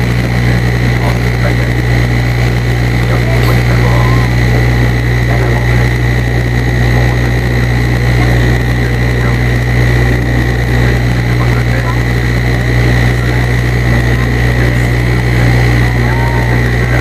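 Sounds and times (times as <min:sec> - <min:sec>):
turboprop engines droning in cabin: 0:00.0 - 0:17.0.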